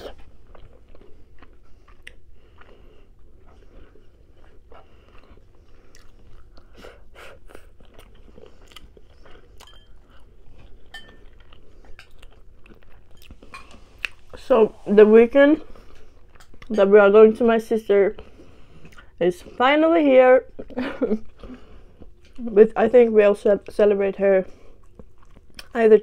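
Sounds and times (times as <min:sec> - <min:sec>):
person chewing with wet smacks: 0:00.0 - 0:14.5, 0:15.3 - 0:22.9, 0:23.5 - 0:26.0.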